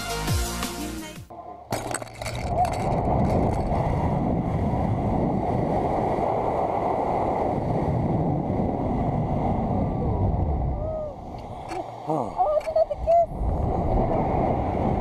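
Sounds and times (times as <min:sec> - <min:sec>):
wind rushing over microphone: 0:02.2 - 0:15.0.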